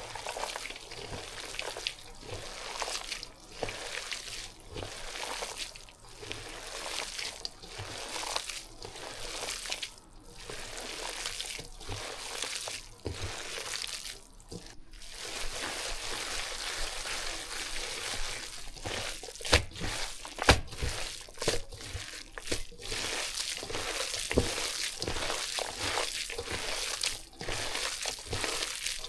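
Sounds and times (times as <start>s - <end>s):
wet mixing of meat filling: 0.0s - 29.0s.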